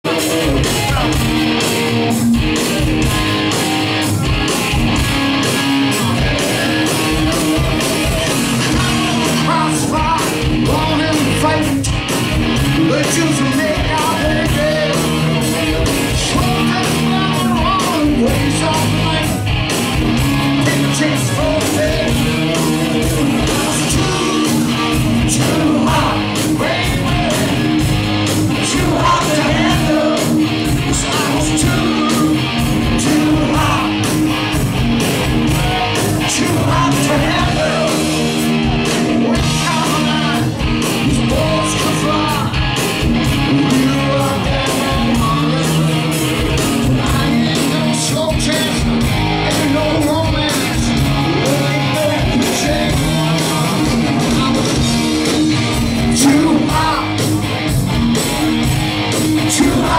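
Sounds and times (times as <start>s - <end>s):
crowd: 0.0s - 59.9s
hard rock band playing live: 0.0s - 59.9s
person singing: 5.5s - 12.0s, 12.6s - 19.4s, 20.5s - 34.1s, 35.5s - 57.3s, 59.4s - 59.9s.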